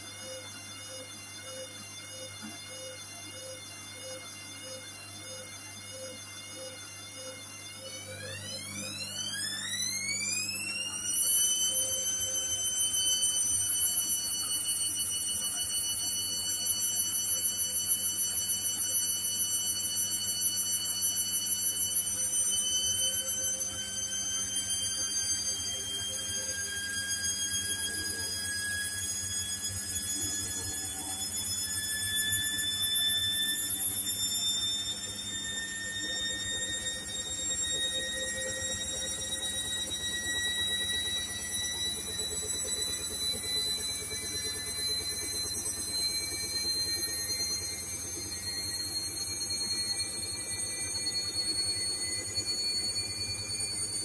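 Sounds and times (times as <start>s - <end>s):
washing machine motor whine: 0.0s - 54.0s.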